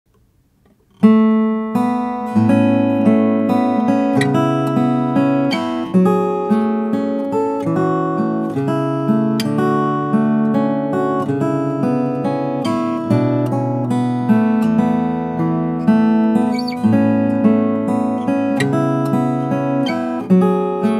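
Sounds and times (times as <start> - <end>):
fingerstyle acoustic guitar: 0.1 - 20.9.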